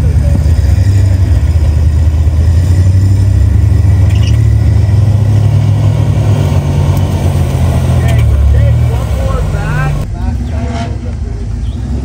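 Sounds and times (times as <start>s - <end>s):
pickup engine under load: 0.0s - 12.0s.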